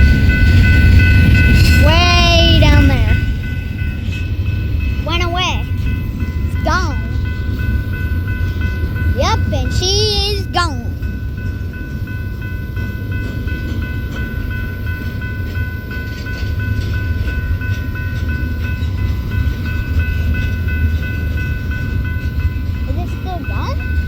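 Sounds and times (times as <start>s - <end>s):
high ringing tones: 0.0s - 24.0s
train rumbling past: 0.0s - 24.0s.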